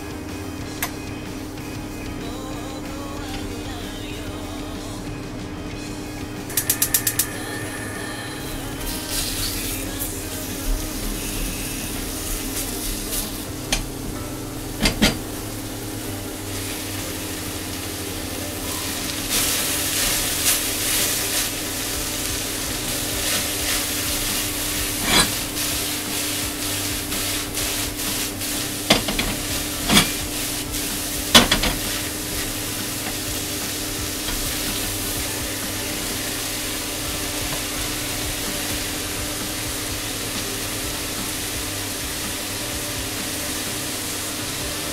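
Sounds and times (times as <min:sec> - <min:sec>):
vegetables sizzling in a saucepan: 0:00.0 - 0:44.9.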